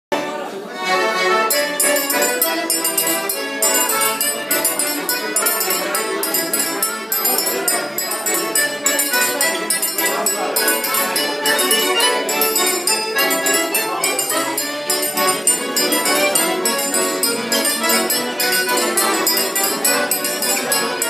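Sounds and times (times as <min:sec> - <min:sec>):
accordions playing folk dance: 0:00.1 - 0:21.0
metal triangle beat: 0:01.5 - 0:21.0.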